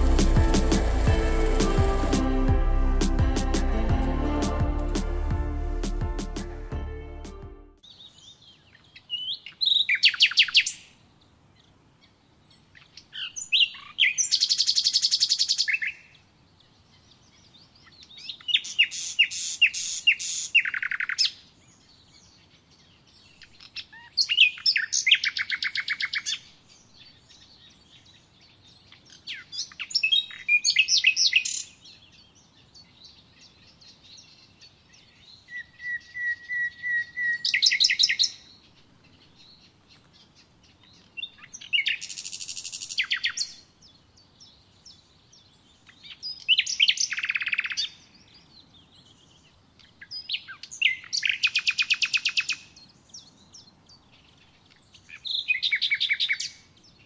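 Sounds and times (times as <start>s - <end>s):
songbird singing trills: 7.8s - 11.0s, 12.0s - 57.0s.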